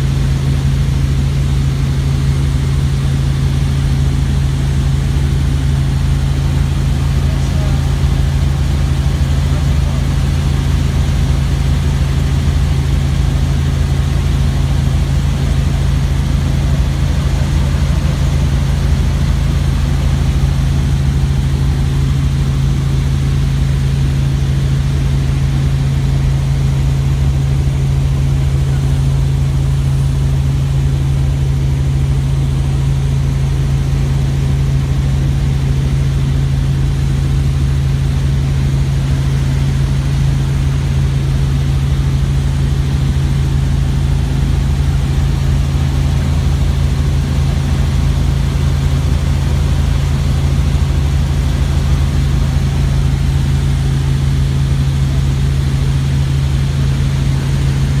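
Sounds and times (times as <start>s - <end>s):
helicopter engine and rotor hum: 0.0s - 58.0s.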